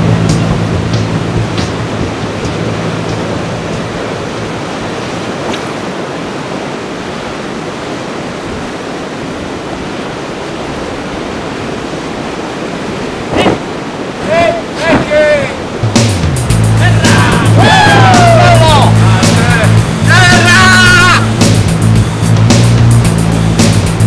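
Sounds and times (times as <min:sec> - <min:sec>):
rough sea surf: 0:00.0 - 0:24.0
wind: 0:00.0 - 0:24.0.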